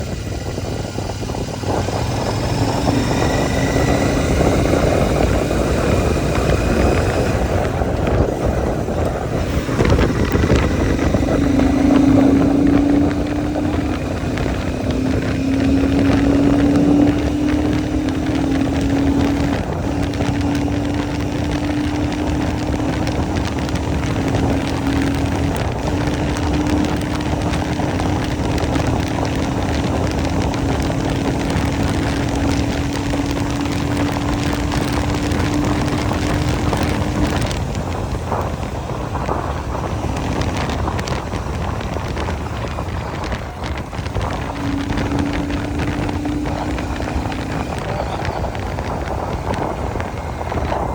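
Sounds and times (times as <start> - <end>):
motorcycle engine at speed: 0.0 - 50.9
wind noise on microphone: 0.0 - 50.9.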